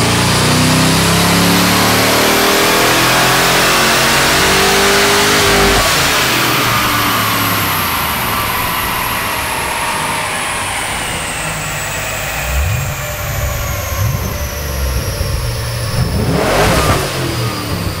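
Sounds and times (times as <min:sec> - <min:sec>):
car engine running: 0:00.0 - 0:09.7, 0:10.4 - 0:18.0
high turbo whistle: 0:01.9 - 0:18.0.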